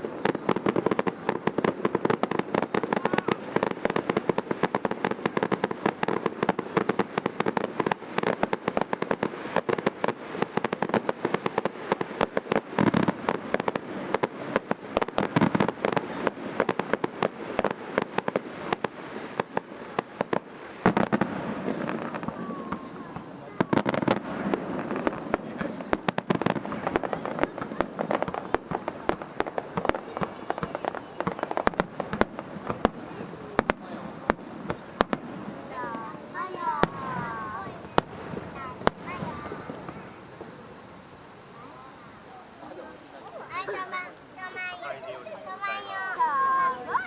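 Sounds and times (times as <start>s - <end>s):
fireworks crackling: 0.0s - 47.0s
heavy firework bursts: 0.0s - 47.0s.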